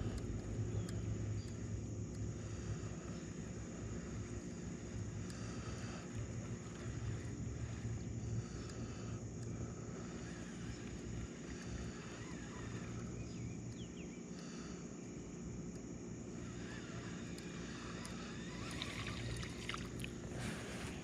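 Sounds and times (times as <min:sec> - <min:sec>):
faint ticks and rustles: 0:00.0 - 0:21.0
small boat motor humming: 0:00.0 - 0:21.0.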